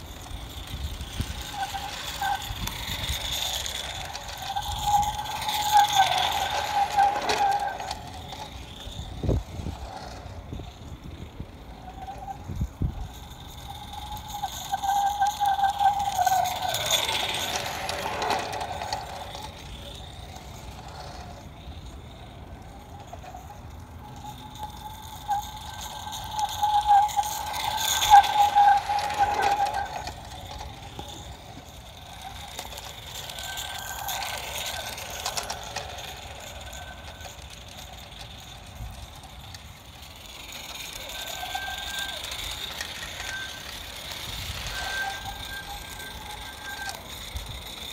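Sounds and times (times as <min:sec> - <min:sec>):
model steam train passing: 0:00.0 - 0:47.9.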